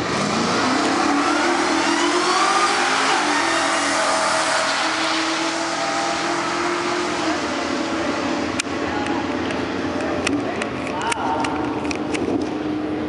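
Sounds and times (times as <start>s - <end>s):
cars accelerating hard: 0.0s - 10.8s.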